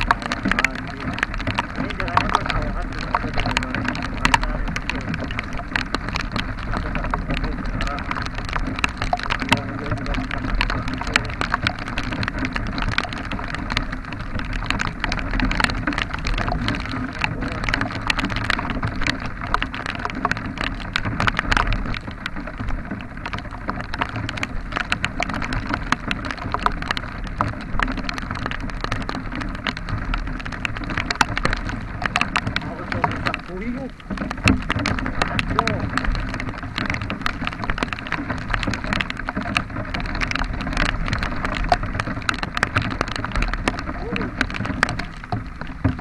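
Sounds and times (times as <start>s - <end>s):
rain tapping on microphone: 0.0s - 46.0s
vehicle low rumble: 0.0s - 46.0s.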